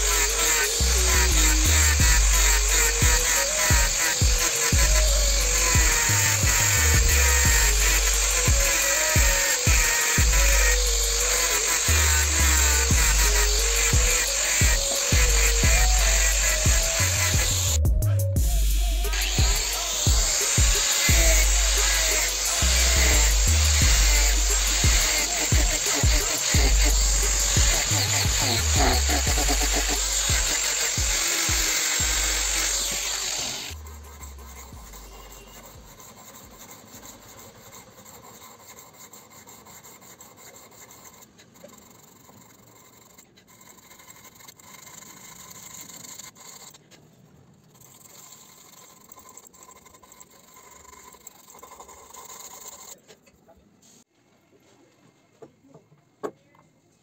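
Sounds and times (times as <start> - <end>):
angle grinder running: 0.0 - 46.8
hand file scraping wood: 0.0 - 47.0.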